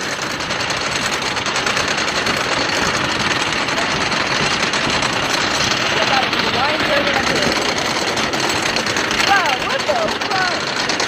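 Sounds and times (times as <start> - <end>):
roller coaster clattering: 0.0 - 11.0.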